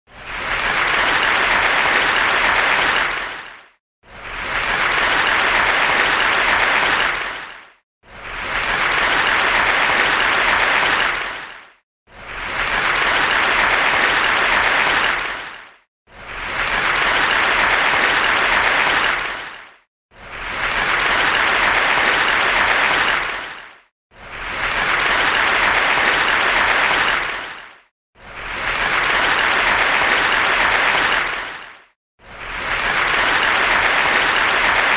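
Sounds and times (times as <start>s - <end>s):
crowd applause: 0.2s - 3.6s, 4.2s - 7.5s, 8.2s - 11.5s, 12.3s - 15.5s, 16.3s - 19.6s, 20.3s - 23.6s, 24.3s - 27.6s, 28.3s - 31.6s, 32.3s - 34.9s.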